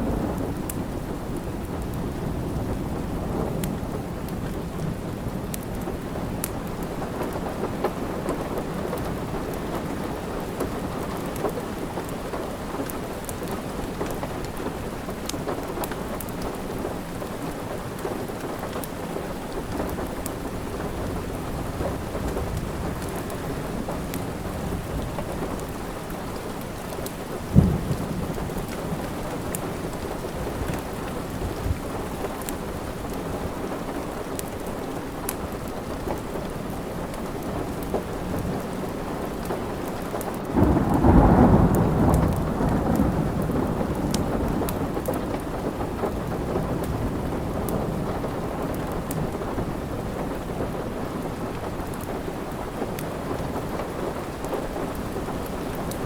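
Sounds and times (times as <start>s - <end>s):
crackling log fire: 0.0s - 56.0s
steady rain: 0.0s - 56.0s.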